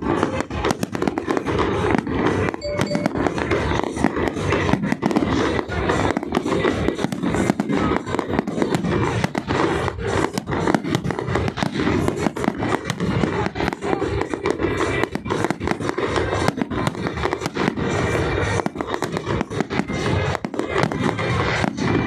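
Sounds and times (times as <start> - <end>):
fireworks bangs and crackles: 0.0 - 22.0
music playing: 0.0 - 22.0.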